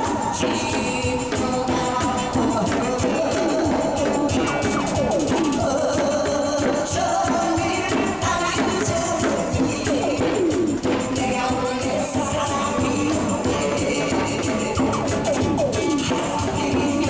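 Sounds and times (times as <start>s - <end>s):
drum beat: 0.0s - 17.0s
jingling percussion: 0.0s - 17.0s
woman singing into a microphone: 0.0s - 17.0s.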